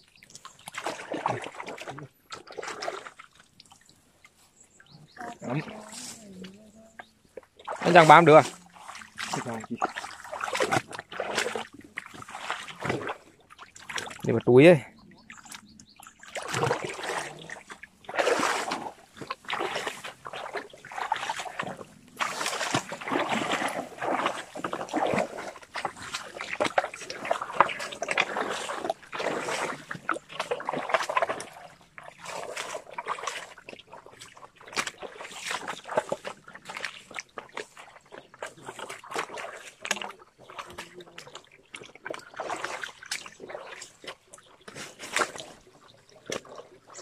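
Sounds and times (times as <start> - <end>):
footsteps splashing through water: 0.0 - 47.0.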